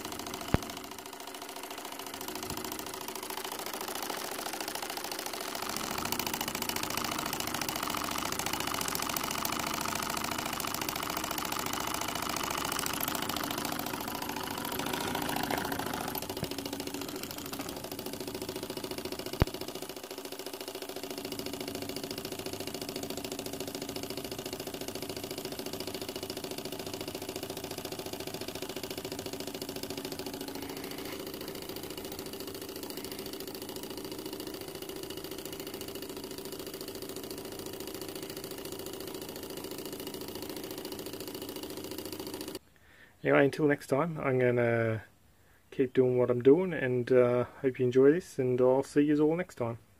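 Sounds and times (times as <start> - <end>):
small steam engine running: 0.0 - 42.6.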